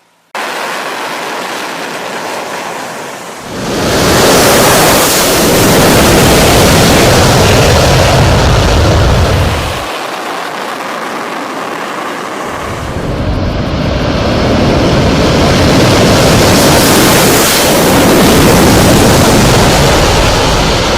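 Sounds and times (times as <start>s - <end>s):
fighter jet engine roar: 0.4s - 20.9s.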